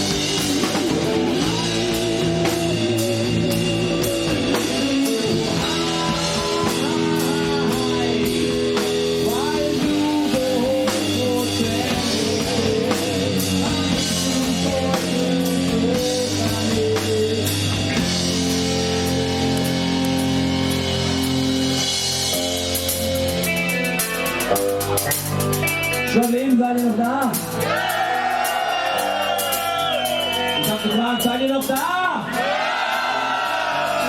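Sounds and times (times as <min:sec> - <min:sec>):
electric guitar: 0:00.0 - 0:31.3
drum kit: 0:00.0 - 0:34.0.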